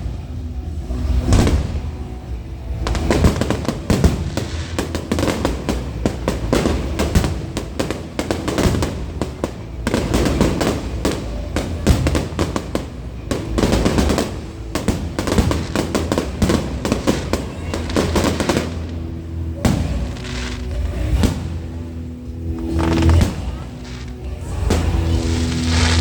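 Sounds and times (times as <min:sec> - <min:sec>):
fireworks bangs and crackling: 0:00.0 - 0:26.0
low rumble: 0:00.0 - 0:26.0
music playing: 0:00.0 - 0:26.0.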